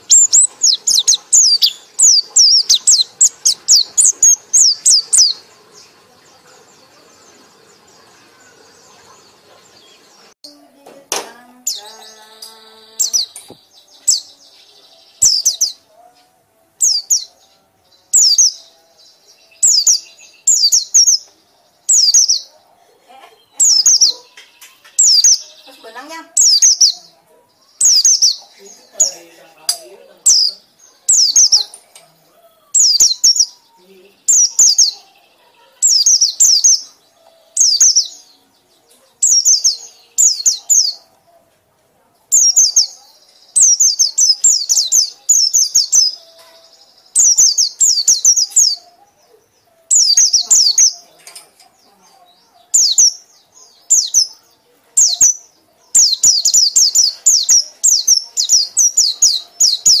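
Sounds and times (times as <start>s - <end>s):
bird chattering song: 0.0s - 10.6s, 11.3s - 41.4s, 42.2s - 60.0s.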